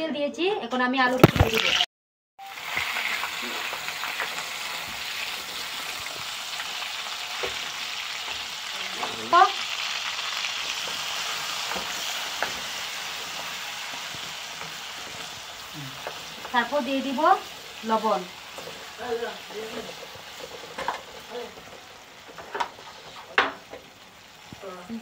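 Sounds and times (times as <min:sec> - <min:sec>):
potatoes sizzling in oil: 0:02.4 - 0:25.0.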